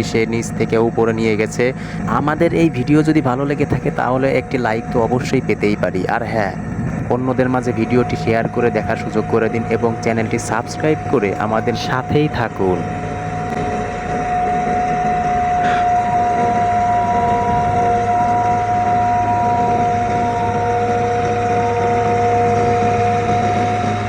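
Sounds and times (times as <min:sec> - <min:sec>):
excavator engine hum: 0:00.0 - 0:24.0
faint tones: 0:00.0 - 0:24.0
high-pitched hydraulic whine: 0:00.0 - 0:24.0.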